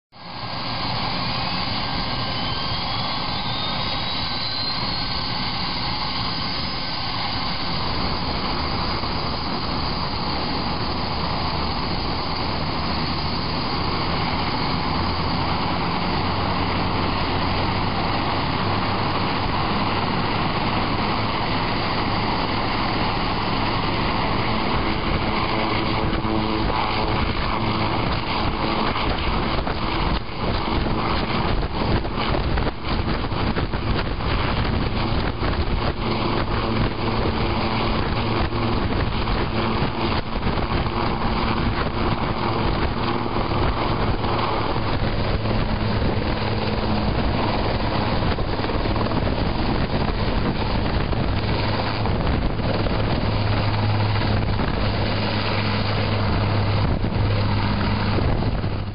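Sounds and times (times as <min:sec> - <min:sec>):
helicopter engine hum: 0:00.1 - 0:58.9
helicopter rotors whooshing: 0:00.2 - 0:58.9.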